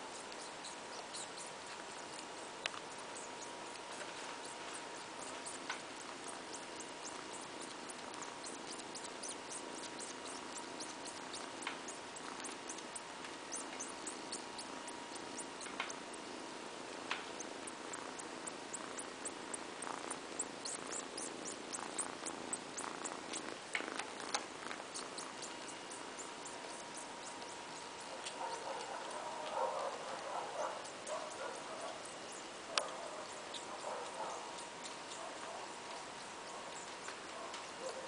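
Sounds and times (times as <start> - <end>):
soft sucking clicks: 0.0 - 37.9
kitten purring: 0.0 - 38.0.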